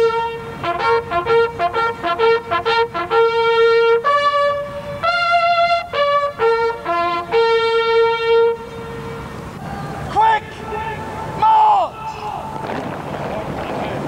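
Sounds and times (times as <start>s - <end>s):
bugles sounding a call: 0.0s - 14.0s.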